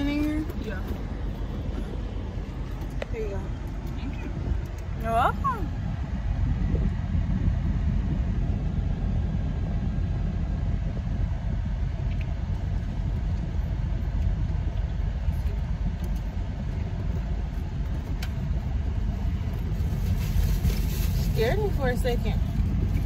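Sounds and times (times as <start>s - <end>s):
car cabin engine rumble: 0.0s - 23.0s.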